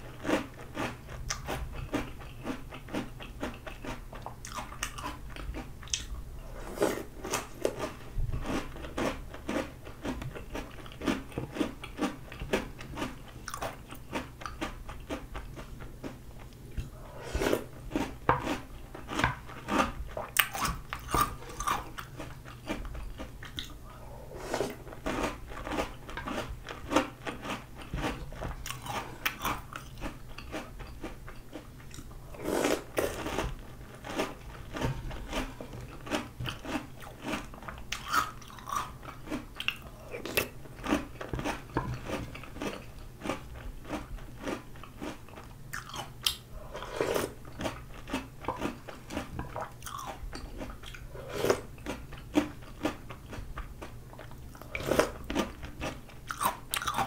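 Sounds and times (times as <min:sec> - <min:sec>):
crunchy cereal chewing: 0:00.1 - 0:24.0, 0:24.6 - 0:57.0.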